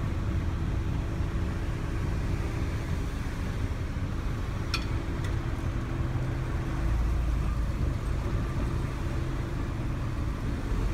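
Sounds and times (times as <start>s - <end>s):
engine and tyre rumble: 0.0s - 10.9s
vehicles driving over crossing: 0.0s - 10.9s.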